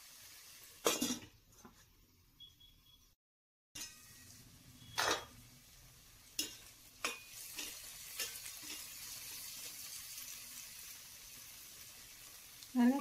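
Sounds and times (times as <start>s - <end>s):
chicken sizzling in a pot: 0.0s - 2.1s, 3.8s - 13.0s.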